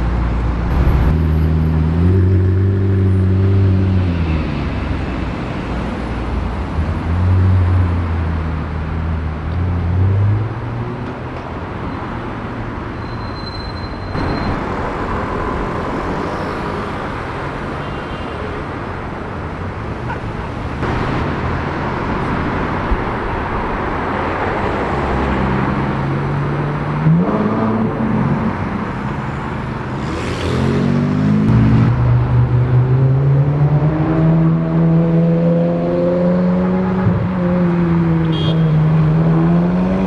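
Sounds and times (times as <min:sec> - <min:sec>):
city street traffic: 0:00.0 - 0:40.0.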